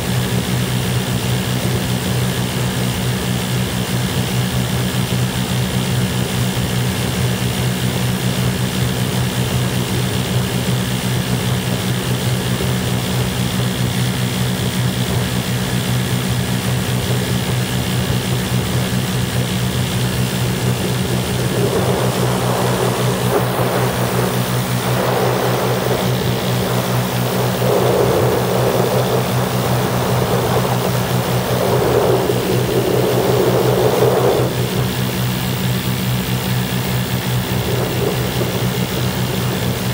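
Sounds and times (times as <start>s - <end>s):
rushing wind noise: 0.0s - 39.9s
ultralight aircraft engines droning: 0.0s - 39.9s.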